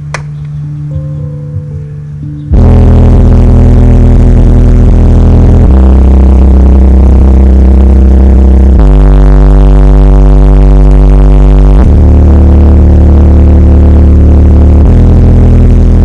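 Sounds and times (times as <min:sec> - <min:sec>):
subwoofer playing deep bass: 0:00.0 - 0:16.0.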